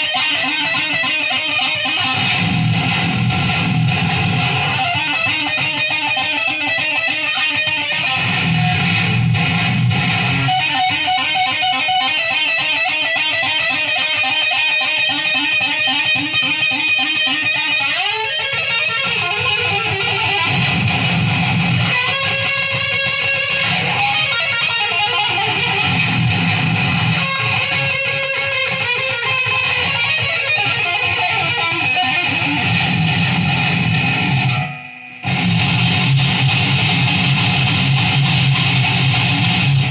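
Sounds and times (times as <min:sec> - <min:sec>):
guitar playing: 0:00.0 - 0:39.9.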